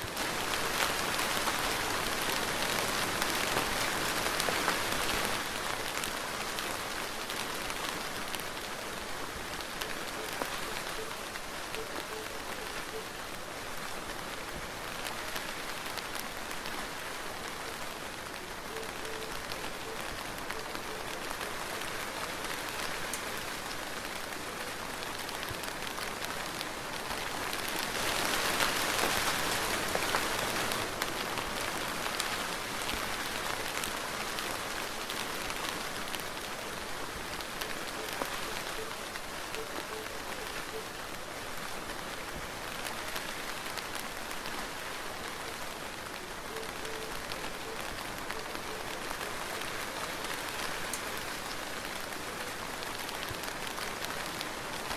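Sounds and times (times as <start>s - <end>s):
steady soft rain: 0.0s - 54.9s.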